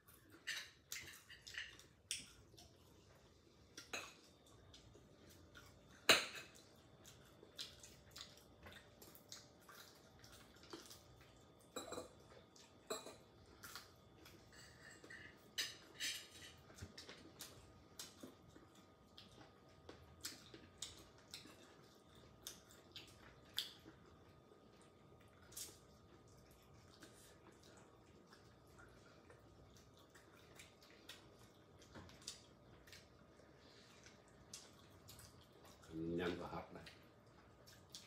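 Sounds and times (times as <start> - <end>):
wet eating sounds: 0.0 - 38.0.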